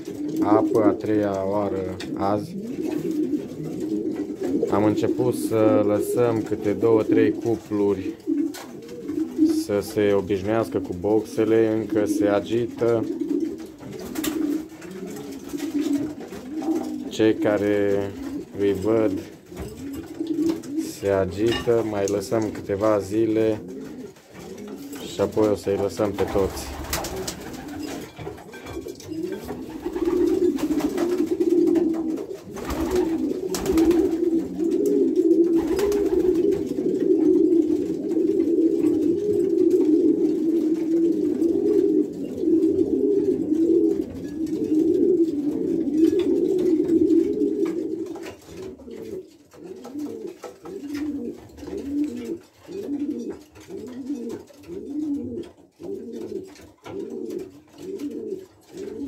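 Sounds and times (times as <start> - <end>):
pigeons cooing: 0.0 - 59.0.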